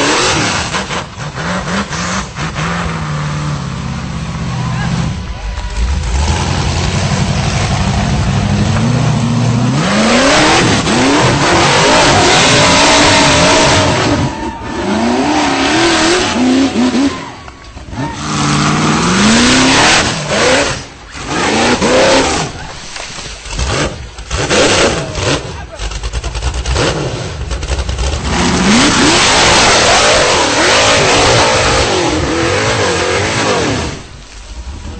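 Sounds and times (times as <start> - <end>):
buggy engine revving hard: 0.0 - 22.8, 23.4 - 34.9.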